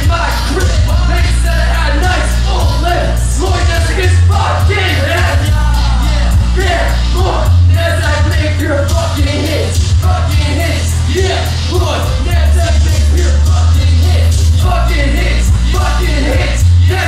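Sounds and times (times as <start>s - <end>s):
hip-hop backing track with bass: 0.0s - 17.0s
man rapping into a microphone: 0.0s - 17.0s.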